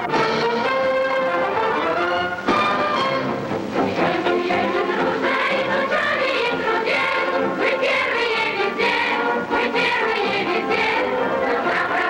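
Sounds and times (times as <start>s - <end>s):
large choir singing: 0.0s - 12.0s
orchestral accompaniment: 0.0s - 12.0s.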